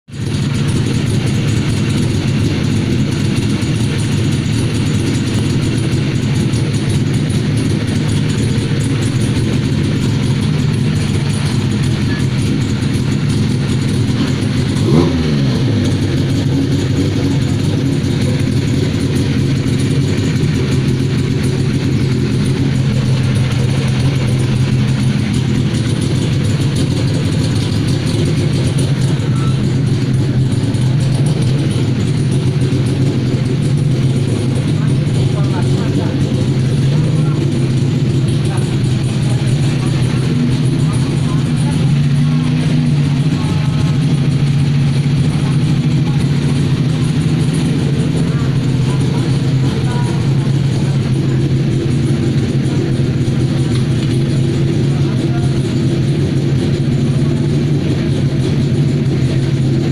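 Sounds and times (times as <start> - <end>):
vehicle engine idling: 0.0 - 59.9
engine revving: 0.2 - 59.9.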